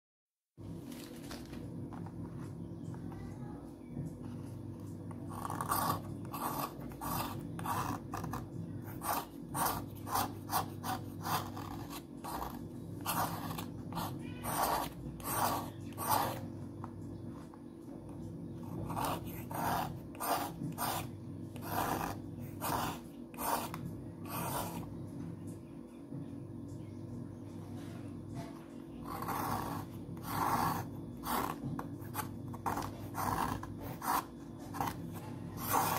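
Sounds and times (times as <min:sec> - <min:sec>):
steady low hum: 0:00.6 - 0:35.9.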